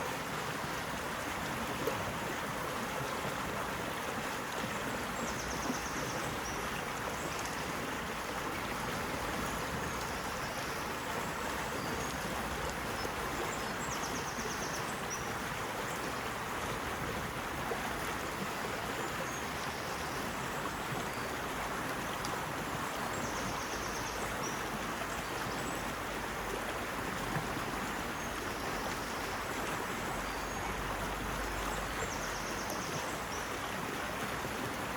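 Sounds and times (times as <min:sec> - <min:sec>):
stream rushing and babbling: 0:00.0 - 0:34.9.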